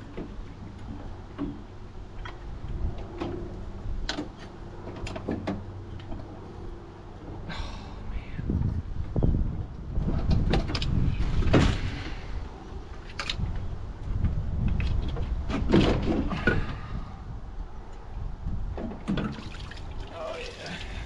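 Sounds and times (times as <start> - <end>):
low rumble of handling noise: 0.0 - 21.0.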